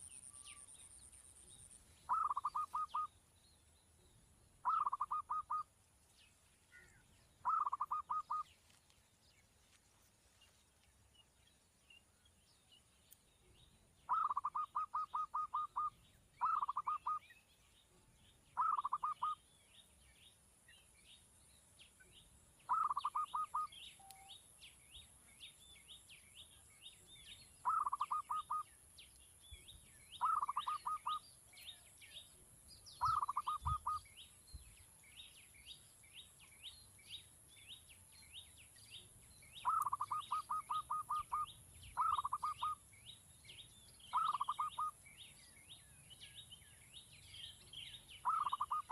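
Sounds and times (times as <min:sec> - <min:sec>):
faint high bird chirping: 0:00.0 - 0:09.8, 0:10.4 - 0:48.9.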